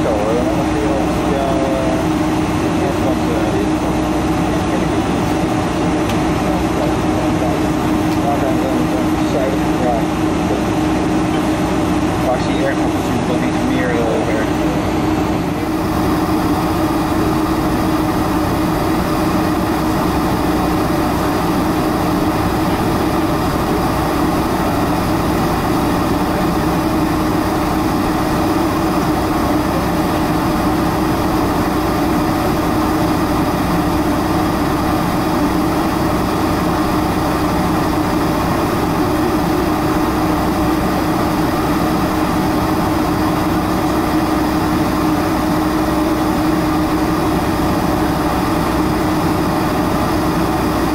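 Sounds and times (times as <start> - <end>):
jet engines idling: 0.0 - 50.9.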